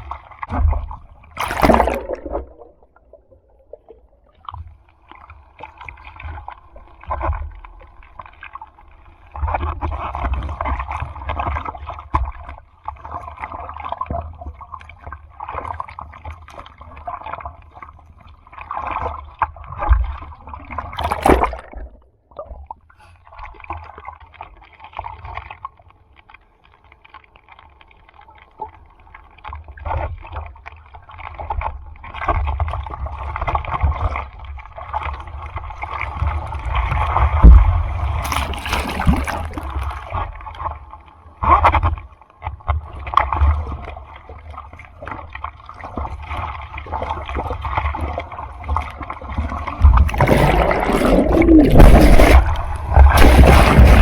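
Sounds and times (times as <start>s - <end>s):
sea water splashing and sloshing: 0.0s - 54.0s.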